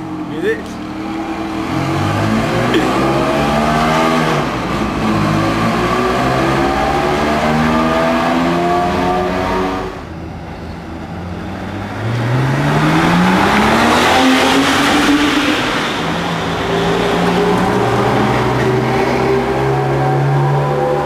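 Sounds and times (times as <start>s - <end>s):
car engines accelerating in tunnel: 0.0s - 21.0s.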